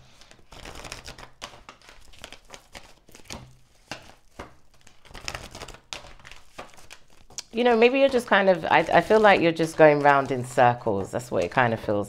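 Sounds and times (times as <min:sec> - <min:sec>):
cards being shuffled: 0:00.0 - 0:11.9.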